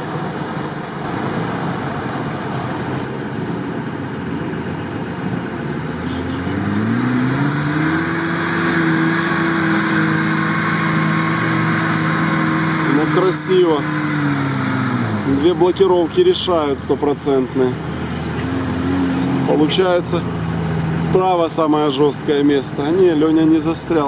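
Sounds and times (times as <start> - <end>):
off-road engines droning: 0.0 - 24.0
jeep engine revving: 4.1 - 24.0.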